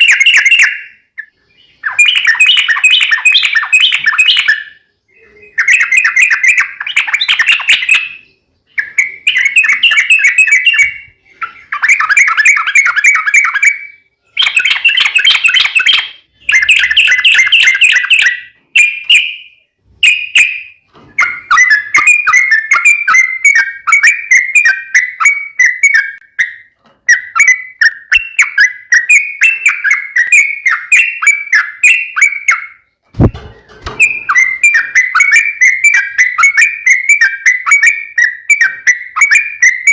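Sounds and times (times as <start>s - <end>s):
bird singing chirped notes: 0.0s - 39.9s.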